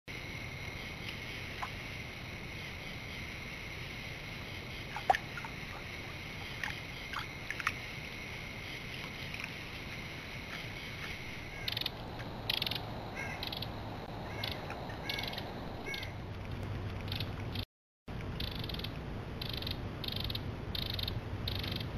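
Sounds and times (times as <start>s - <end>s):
insects trilling: 0.1s - 16.3s, 17.1s - 17.6s, 18.4s - 21.9s
short rasping insect calls: 0.2s - 16.2s, 18.4s - 21.9s.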